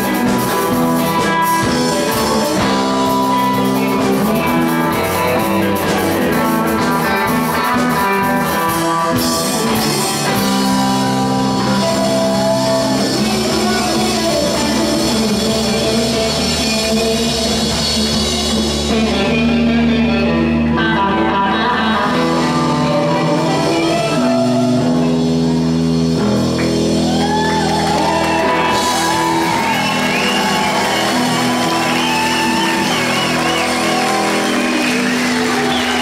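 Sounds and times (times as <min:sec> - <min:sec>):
electric guitar bending lead: 0:00.0 - 0:36.0
rock band playing: 0:00.0 - 0:36.0.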